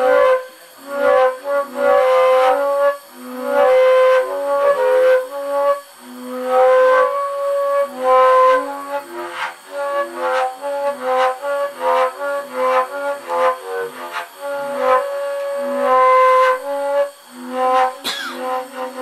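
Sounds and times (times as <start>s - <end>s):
flute melody: 0.0s - 19.0s.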